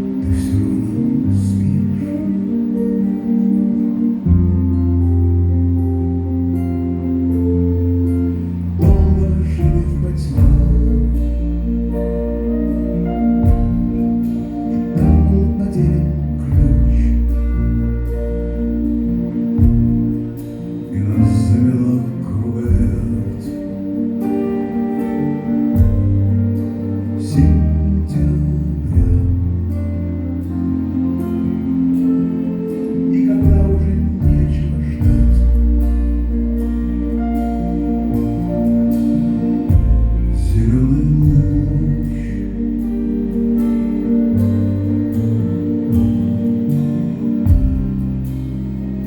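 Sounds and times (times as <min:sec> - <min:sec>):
bass line: 0:00.0 - 0:49.0
guitar: 0:00.0 - 0:49.0
live band playing: 0:00.0 - 0:49.0.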